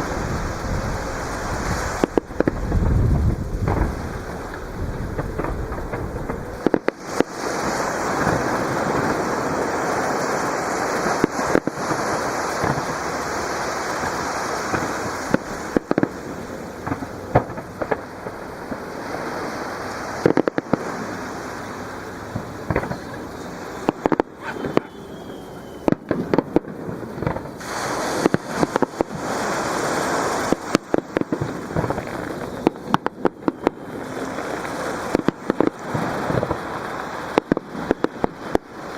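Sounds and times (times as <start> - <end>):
fireworks bangs: 0.0 - 38.9
fireworks crackling: 0.0 - 38.9
surf washing on shore: 0.0 - 38.9.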